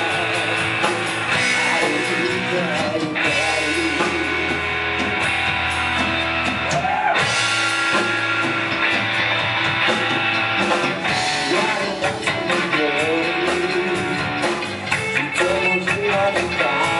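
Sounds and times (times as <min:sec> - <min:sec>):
electric guitar: 0:00.0 - 0:16.9
live rock band playing: 0:00.0 - 0:16.9.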